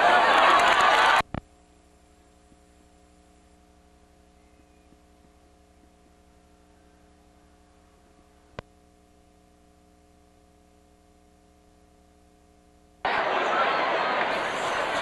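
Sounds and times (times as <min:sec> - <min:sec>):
faint mains hum: 0:00.0 - 0:15.0.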